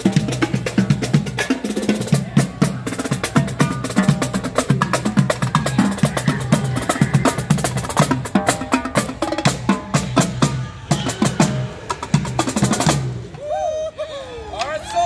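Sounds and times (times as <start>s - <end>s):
marching drum line: 0.0s - 13.4s.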